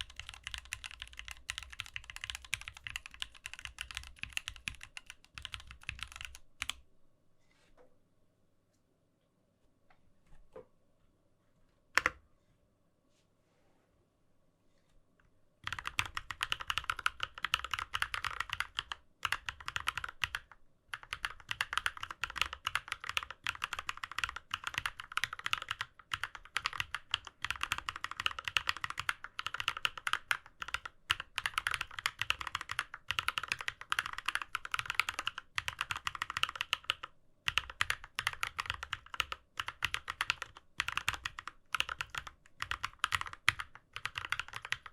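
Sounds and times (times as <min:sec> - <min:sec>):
typing on mechanical keyboard: 0:00.0 - 0:06.8, 0:15.6 - 0:44.9.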